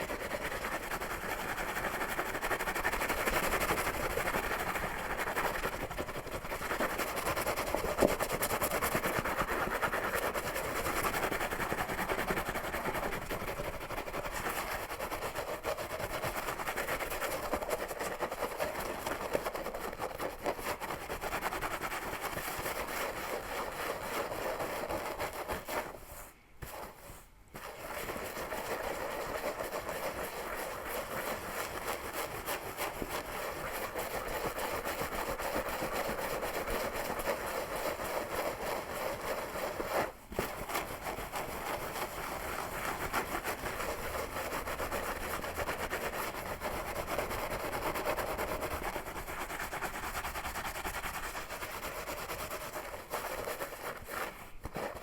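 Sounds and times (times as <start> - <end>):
fingers scratching scalp and hair: 0.0 - 55.0.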